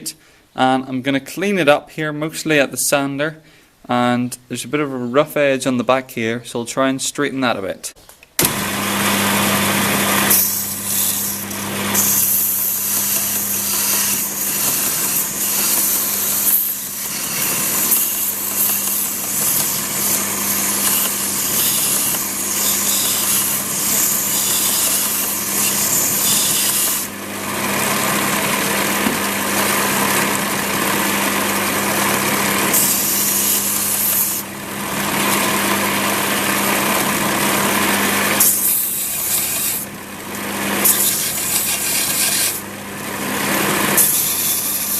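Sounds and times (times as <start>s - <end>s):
power sander grinding knife blade: 8.4s - 44.9s.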